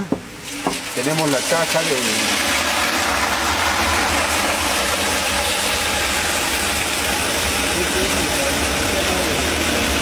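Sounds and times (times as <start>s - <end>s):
water gushing into concrete box: 0.3s - 10.0s.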